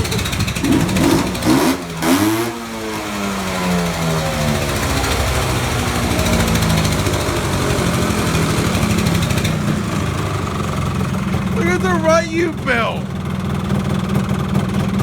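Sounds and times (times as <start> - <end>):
engine running under heavy load: 0.0 - 12.6.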